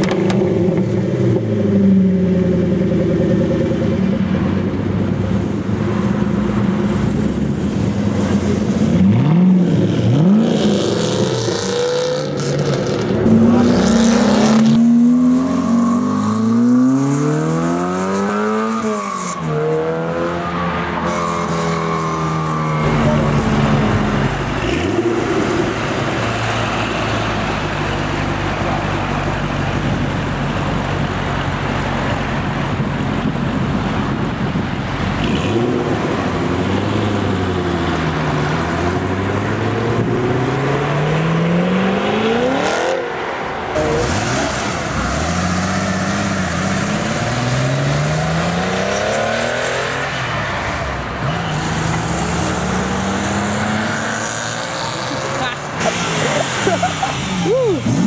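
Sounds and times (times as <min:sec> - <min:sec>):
car engine idling and accelerating: 0:00.0 - 0:58.0.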